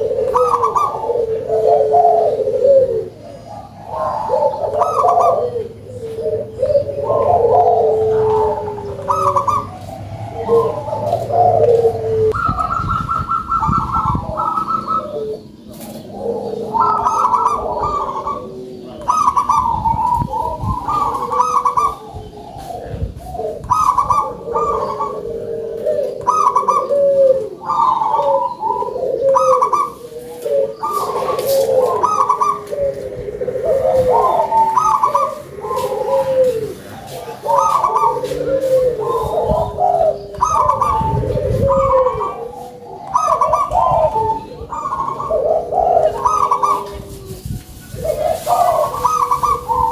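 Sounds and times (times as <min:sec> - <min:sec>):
doves cooing: 0:00.0 - 0:49.9.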